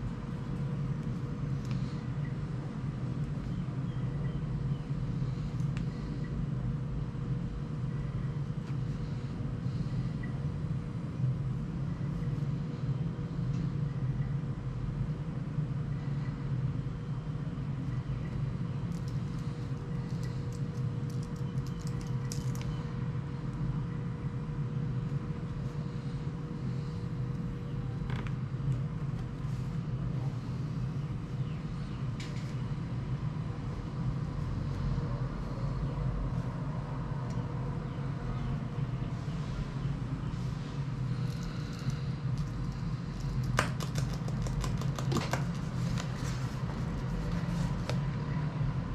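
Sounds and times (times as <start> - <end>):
faint steady whine: 0.0 - 48.9
steady low hum: 0.0 - 48.9.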